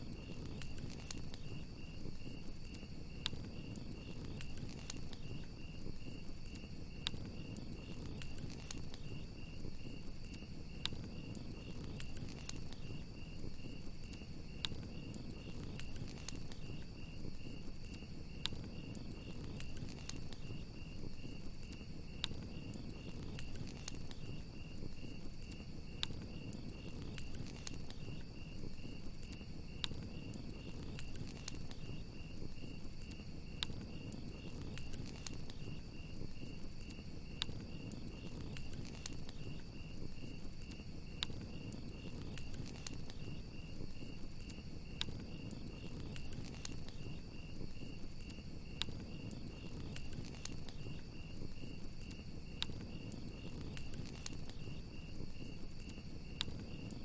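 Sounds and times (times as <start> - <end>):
campfire crackling: 0.0 - 57.0
crickets chirping: 0.0 - 57.0.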